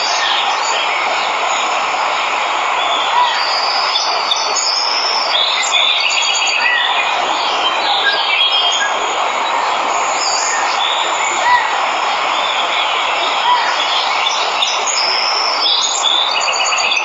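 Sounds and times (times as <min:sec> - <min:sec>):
birds chirping: 0:00.0 - 0:17.0
waterfall rushing: 0:00.0 - 0:17.0.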